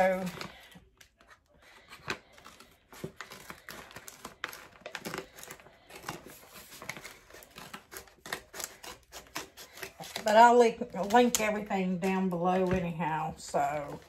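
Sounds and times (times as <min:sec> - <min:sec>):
paper envelope crinkling: 0:00.0 - 0:12.7.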